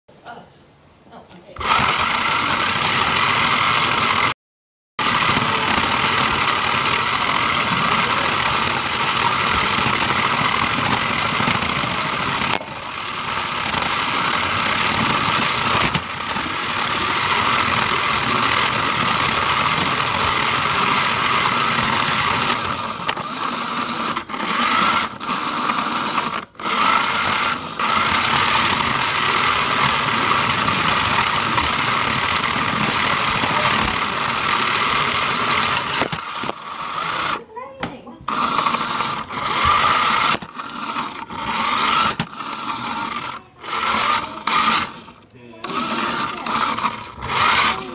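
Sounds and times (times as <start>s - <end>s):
toy car electric motor whining: 1.6s - 4.4s, 5.0s - 47.9s.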